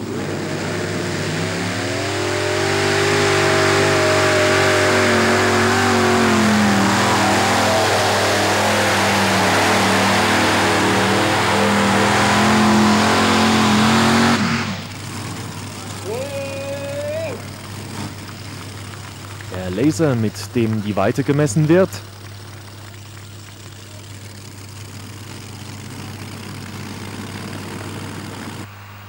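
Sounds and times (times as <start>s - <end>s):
tractor engines at full throttle: 0.0s - 29.0s.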